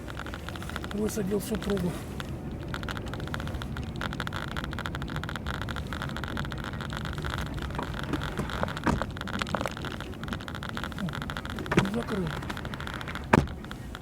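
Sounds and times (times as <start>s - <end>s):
car engine and road noise: 0.0s - 14.0s
short clicks: 0.0s - 14.0s.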